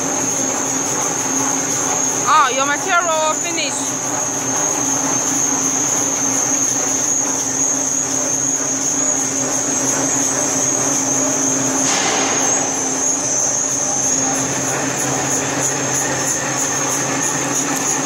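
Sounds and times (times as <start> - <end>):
printing machine running: 0.0 - 18.0.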